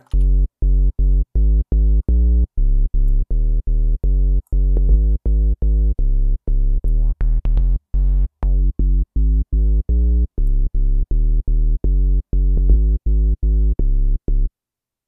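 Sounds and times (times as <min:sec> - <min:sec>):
staccato synth bass notes: 0:00.0 - 0:14.5.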